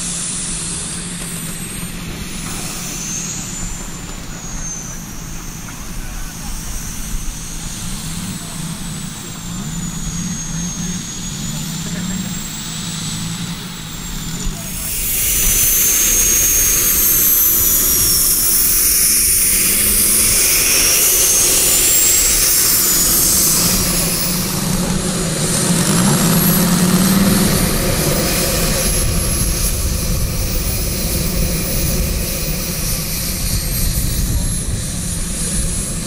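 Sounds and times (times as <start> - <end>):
model jet turbine whine: 0.0 - 36.0
model propeller engine: 0.0 - 36.0.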